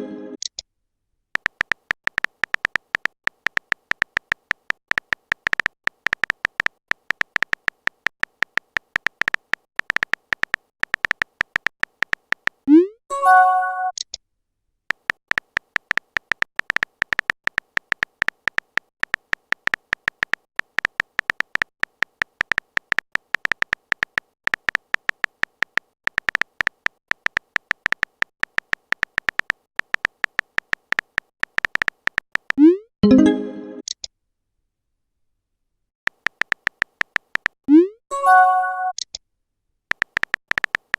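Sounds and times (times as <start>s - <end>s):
keyboard typing clicks with beeps: 1.4s - 14.2s, 14.9s - 34.1s, 36.1s - 39.2s, 39.9s - 40.9s.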